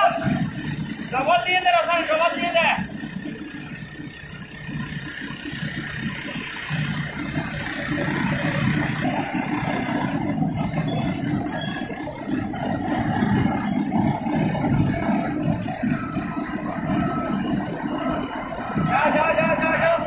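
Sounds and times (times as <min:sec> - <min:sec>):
low industrial machinery noise: 0:00.0 - 0:20.0.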